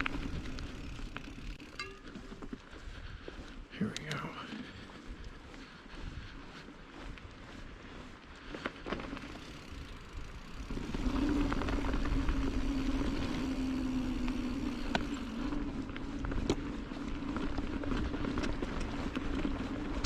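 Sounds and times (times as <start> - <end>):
mountain bike rolling on dirt: 0.0 - 20.0.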